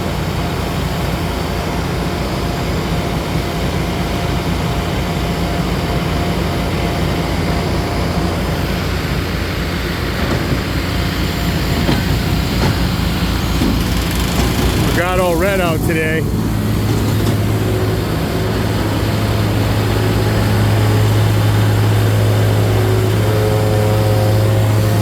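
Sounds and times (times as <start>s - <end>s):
low diesel engine drone: 0.0s - 25.0s.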